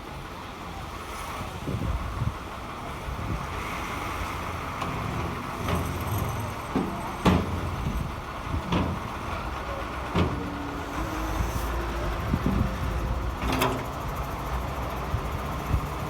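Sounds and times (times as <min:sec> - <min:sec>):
heavy machinery engine rumble: 0:00.0 - 0:16.0.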